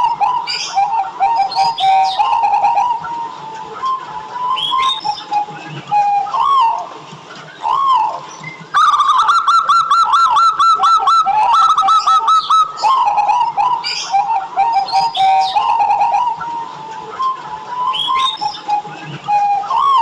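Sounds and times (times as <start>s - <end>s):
doves cooing: 0.0s - 20.0s
higher bird chirps: 0.0s - 20.0s.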